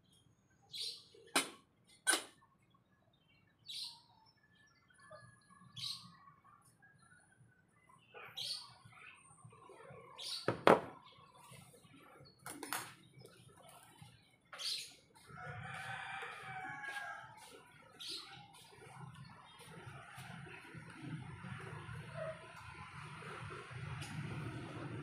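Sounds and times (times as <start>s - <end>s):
birds chirping: 2.1s - 23.4s.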